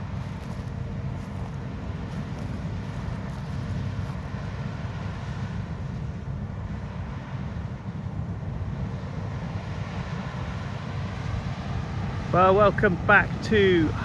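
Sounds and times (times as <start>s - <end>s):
combine harvester rumbling: 0.0s - 14.0s.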